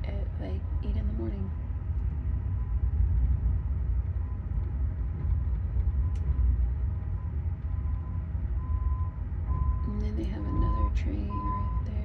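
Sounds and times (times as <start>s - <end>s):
low rumble inside train car: 0.0s - 12.0s.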